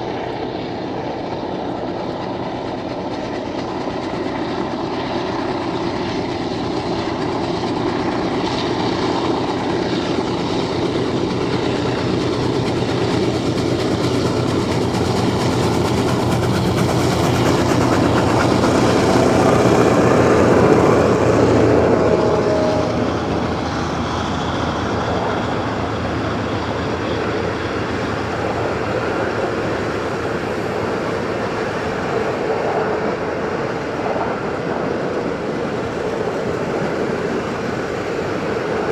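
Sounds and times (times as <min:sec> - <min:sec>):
train passing on rails: 0:00.0 - 0:38.9.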